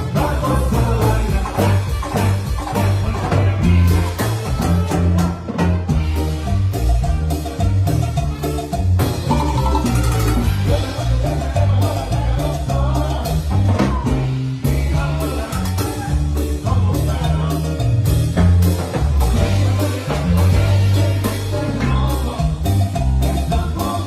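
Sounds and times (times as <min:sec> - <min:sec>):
person singing: 0:00.0 - 0:05.6, 0:09.3 - 0:24.0
live band playing latin dance music: 0:00.0 - 0:24.0.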